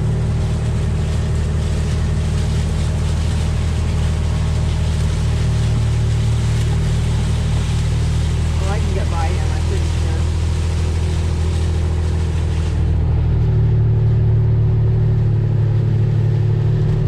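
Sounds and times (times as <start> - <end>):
road noise: 0.0 - 17.0
vehicle engine humming: 0.0 - 17.0.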